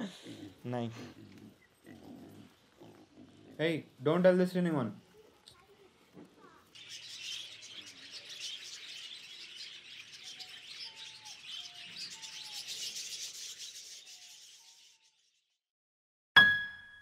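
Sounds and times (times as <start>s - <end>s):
birds chirping and twittering: 0.0s - 15.5s.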